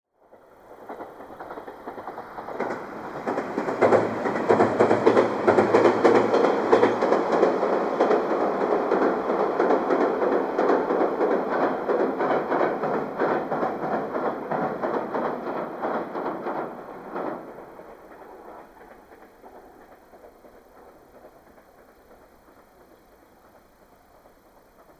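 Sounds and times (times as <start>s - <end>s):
low train hum: 0.1s - 24.9s
train wheels clattering over rail joints: 0.3s - 24.9s.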